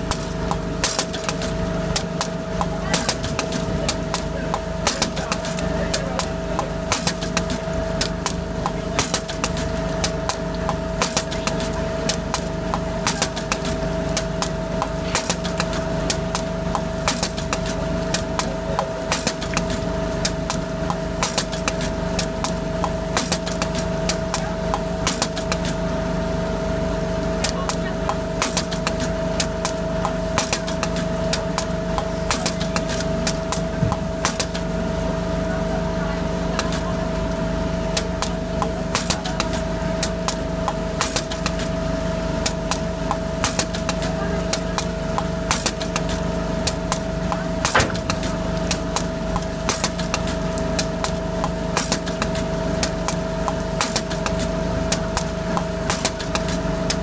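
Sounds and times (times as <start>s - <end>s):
sharp machine clicks: 0.0s - 25.9s, 27.4s - 34.7s, 37.9s - 57.0s
machine humming: 0.0s - 57.0s.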